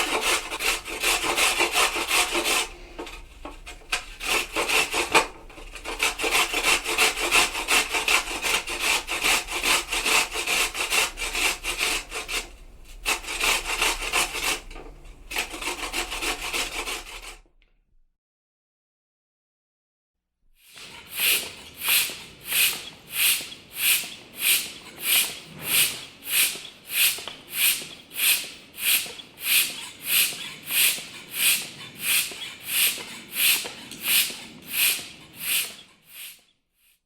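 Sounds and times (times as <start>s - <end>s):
hacksaw cutting metal: 0.0s - 17.4s, 20.8s - 36.4s.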